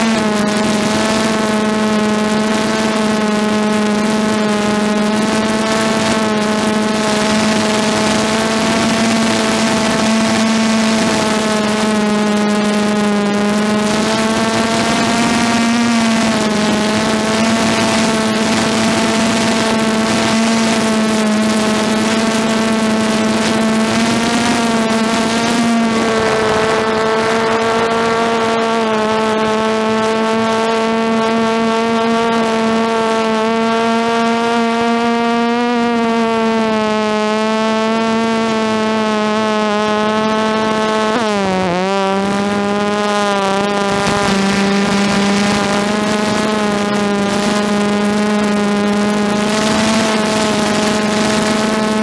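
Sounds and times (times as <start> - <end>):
quadcopter motors humming: 0.0 - 52.0.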